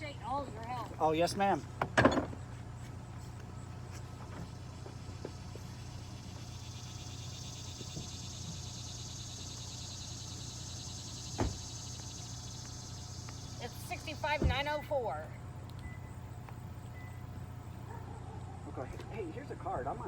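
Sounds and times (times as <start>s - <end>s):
insects chirping: 0.0s - 20.0s
low constant hum: 0.0s - 20.0s.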